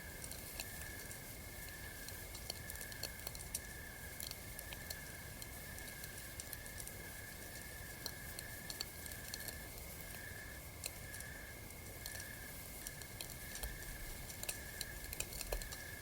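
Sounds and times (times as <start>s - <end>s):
campfire crackling and popping: 0.0s - 16.0s
soft steady hiss: 0.0s - 16.0s.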